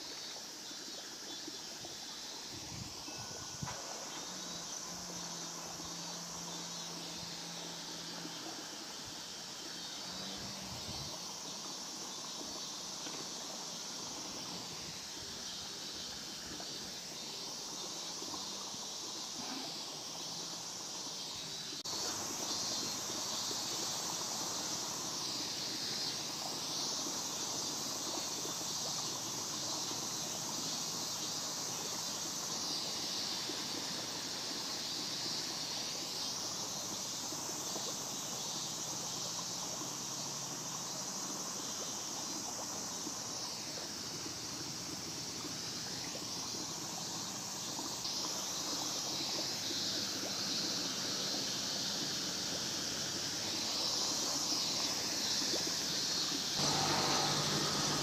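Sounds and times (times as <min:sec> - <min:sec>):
faint outdoor background noise: 0:00.0 - 0:58.0
shrill insect chorus: 0:00.0 - 0:58.0.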